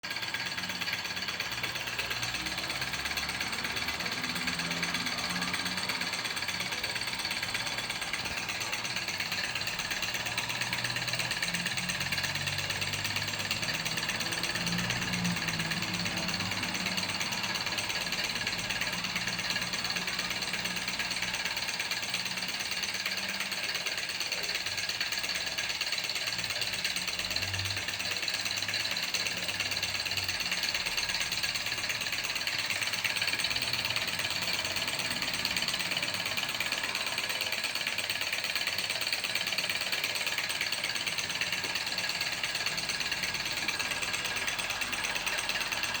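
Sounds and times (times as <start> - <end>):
model engine clattering: 0.0 - 46.0.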